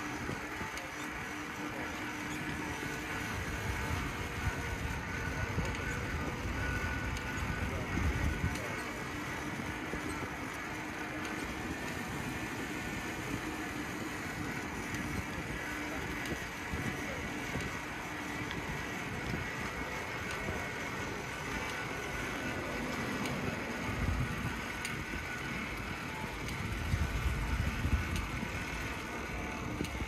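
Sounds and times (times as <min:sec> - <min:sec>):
bicycle rattle: 0:00.0 - 0:30.0.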